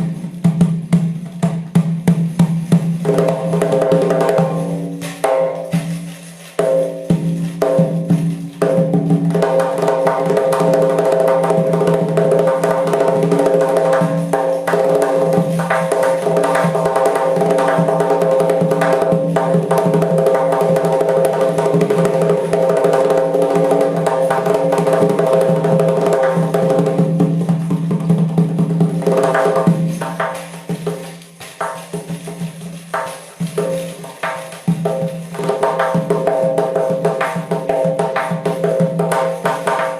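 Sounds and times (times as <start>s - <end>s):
frame drum with jingling rings: 0.0s - 39.9s.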